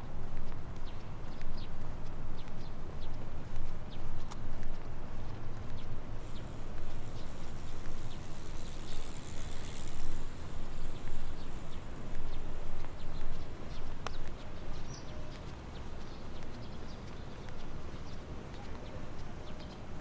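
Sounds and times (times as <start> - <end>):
footsteps on pavement: 0.0 - 20.0
outdoor ambience hiss: 0.0 - 20.0.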